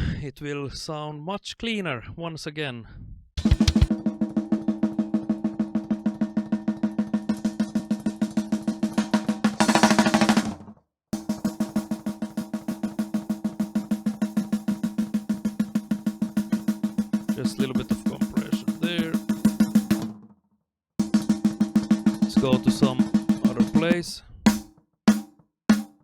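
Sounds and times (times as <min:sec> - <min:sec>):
snare drum blast beat: 0:03.4 - 0:10.6, 0:11.2 - 0:20.2, 0:21.0 - 0:26.0.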